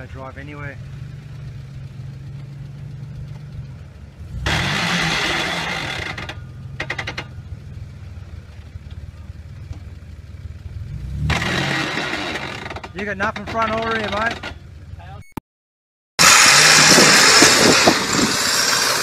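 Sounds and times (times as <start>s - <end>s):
truck engine idling and revving: 0.0s - 15.2s, 16.2s - 19.0s.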